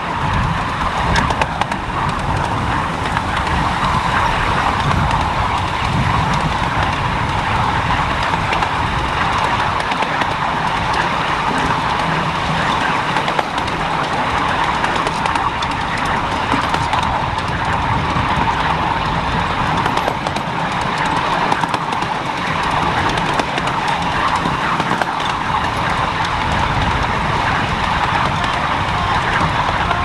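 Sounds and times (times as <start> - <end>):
miniature train rumbling and clicking: 0.0 - 30.0.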